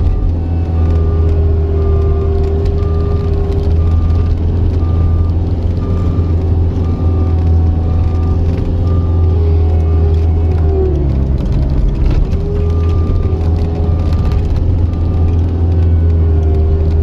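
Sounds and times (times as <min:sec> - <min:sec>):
backup alarm beeping: 0:00.0 - 0:10.8, 0:12.0 - 0:16.0
loader diesel engine: 0:00.0 - 0:17.0.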